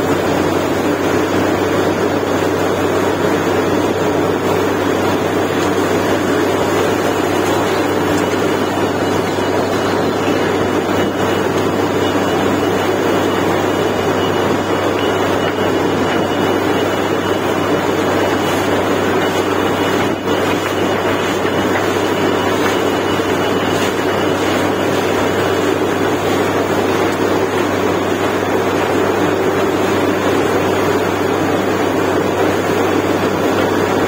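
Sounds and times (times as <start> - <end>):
drilling rig machine din: 0.0 - 34.0.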